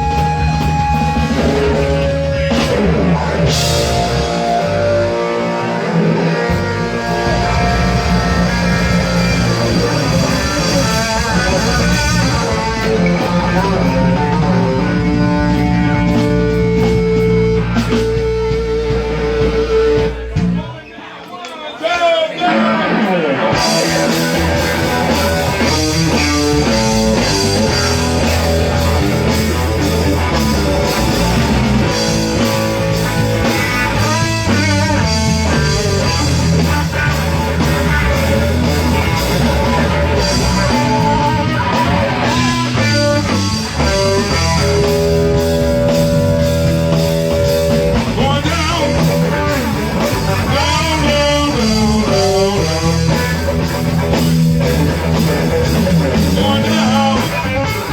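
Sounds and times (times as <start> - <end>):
electric guitar: 0.0 - 20.8, 22.4 - 57.9
live blues-rock band: 0.0 - 20.9, 22.4 - 57.9.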